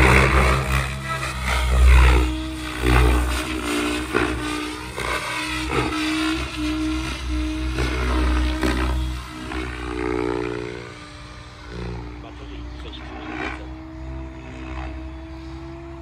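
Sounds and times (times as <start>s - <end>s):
rc helicopter motor whine: 0.0s - 16.0s
rotor blades whooshing: 0.0s - 16.0s.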